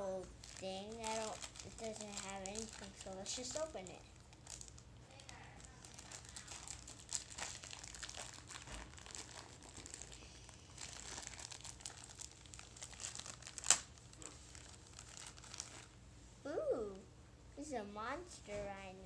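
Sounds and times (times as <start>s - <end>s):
plastic packaging crinkling and tearing: 0.2s - 16.0s.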